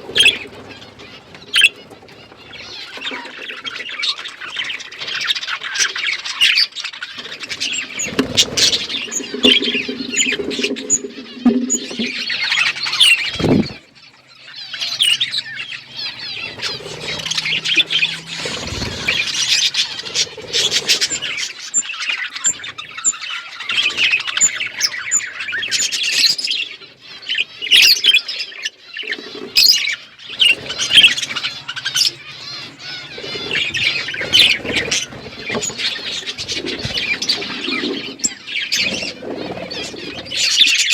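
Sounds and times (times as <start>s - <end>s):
flock of budgerigars chirping: 0.0s - 40.9s.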